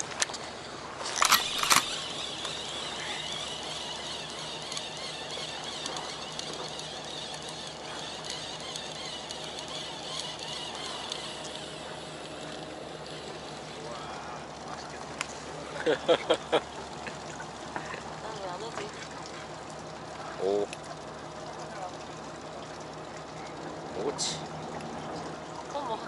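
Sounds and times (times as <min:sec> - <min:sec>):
water: 0:00.0 - 0:26.0
wind: 0:00.0 - 0:26.0.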